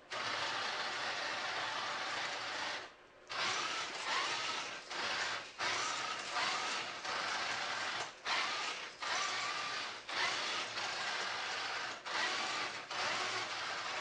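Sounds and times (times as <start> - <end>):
toy tank motors whirring: 0.1 - 14.0.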